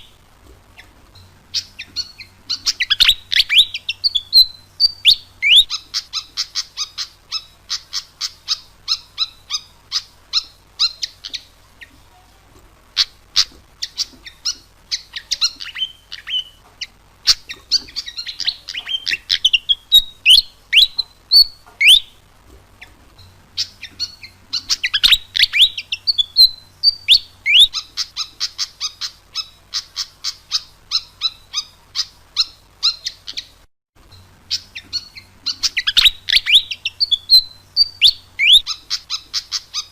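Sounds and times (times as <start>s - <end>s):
bird singing high chirps: 0.0s - 12.0s, 13.0s - 22.2s, 22.8s - 39.9s
faint low hum: 0.0s - 39.9s.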